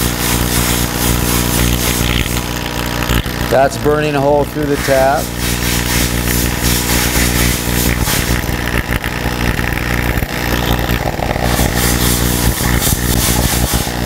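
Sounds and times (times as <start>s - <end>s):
electrode arcing buzz: 0.0s - 14.0s.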